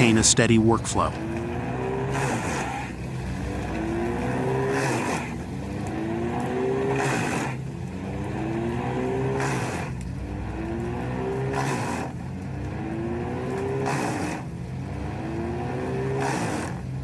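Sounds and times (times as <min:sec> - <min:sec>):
wood chipper engine: 0:01.0 - 0:17.0.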